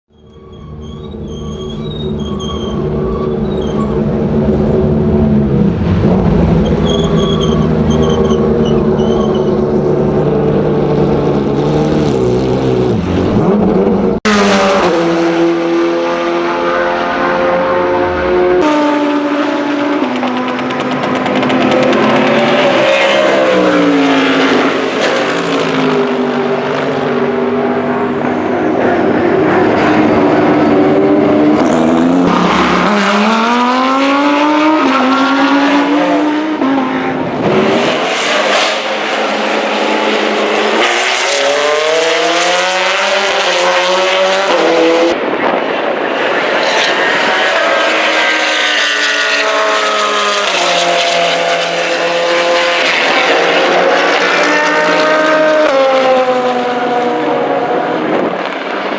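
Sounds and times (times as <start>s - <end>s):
race car engine accelerating: 0.1s - 45.6s, 46.2s - 58.9s.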